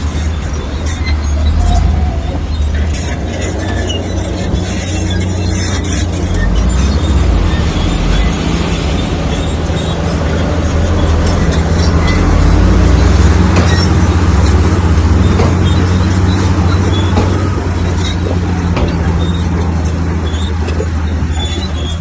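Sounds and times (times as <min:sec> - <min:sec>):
bulldozer engine under load: 0:00.0 - 0:22.0
metallic clanks of tracks: 0:00.0 - 0:22.0.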